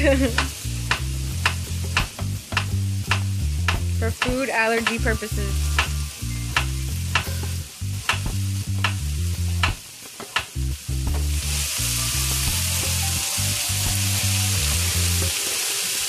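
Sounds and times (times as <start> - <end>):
background music with bass line: 0.0 - 15.4
food frying in a skillet: 0.0 - 16.0.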